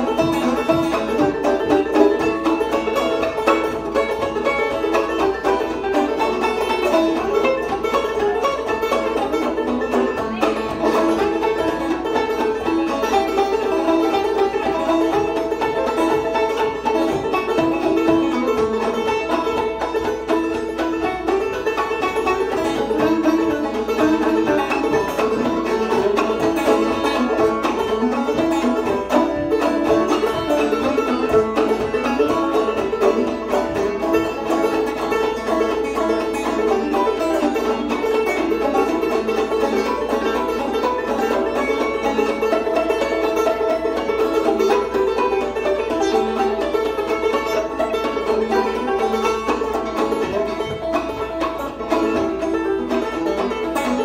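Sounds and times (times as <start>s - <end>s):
banjos playing old-time tune: 0.0s - 54.0s.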